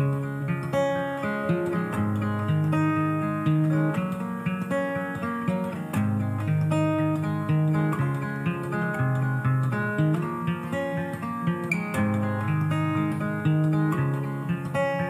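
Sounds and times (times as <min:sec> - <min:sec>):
guitar background music: 0:00.0 - 0:15.0.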